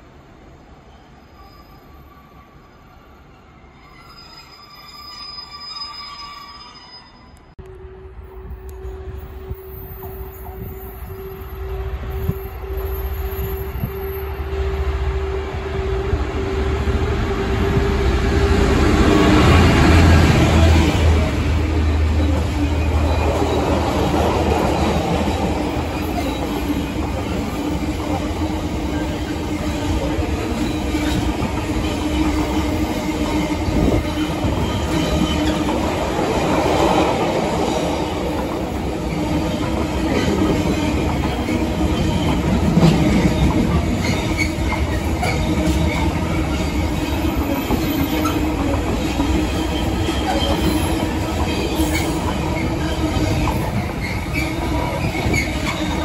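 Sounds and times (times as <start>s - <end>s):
train wheels rumbling on rails: 7.6s - 56.0s.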